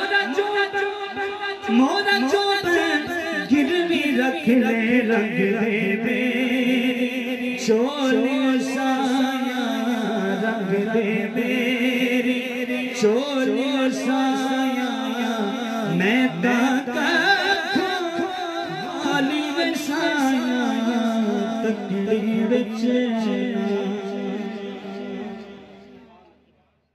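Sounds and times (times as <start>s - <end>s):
man singing over loudspeaker: 0.0s - 26.5s.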